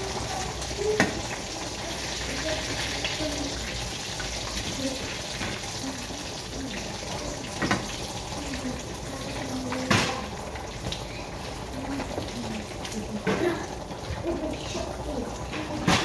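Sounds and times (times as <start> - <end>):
chicken wings sizzling in skillet: 0.0 - 16.0.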